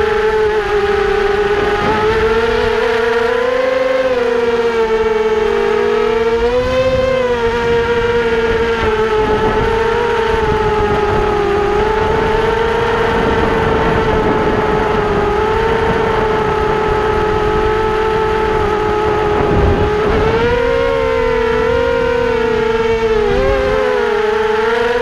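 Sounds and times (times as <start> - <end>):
model aircraft motor whining: 0.0 - 25.0.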